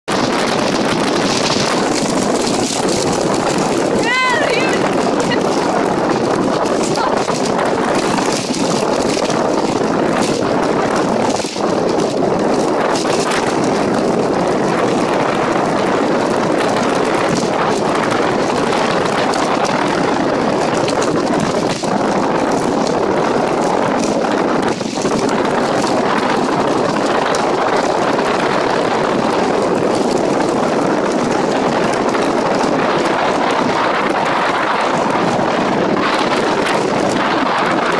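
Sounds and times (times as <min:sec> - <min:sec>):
wind buffeting microphone: 0:00.1 - 0:37.9.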